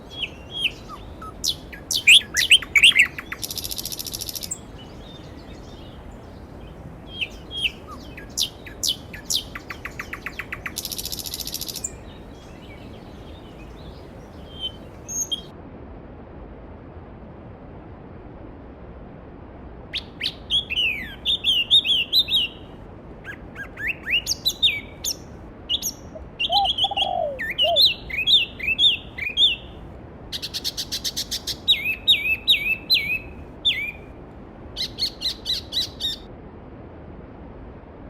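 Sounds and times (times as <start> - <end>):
songbirds singing: 0.0 - 15.5, 20.0 - 34.2, 34.8 - 36.3.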